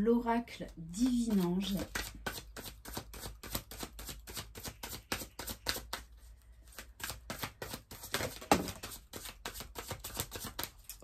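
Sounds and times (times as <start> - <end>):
cards being shuffled: 1.0 - 11.0.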